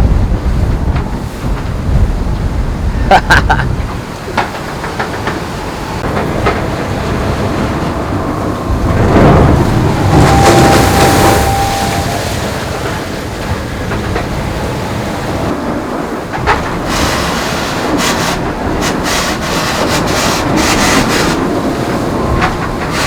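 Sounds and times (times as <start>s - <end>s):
rush of water and wind: 0.0s - 23.0s.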